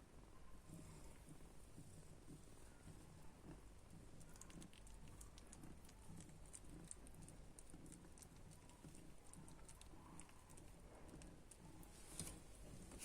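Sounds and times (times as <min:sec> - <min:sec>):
faint soft clicks and patter: 0:00.0 - 0:13.0.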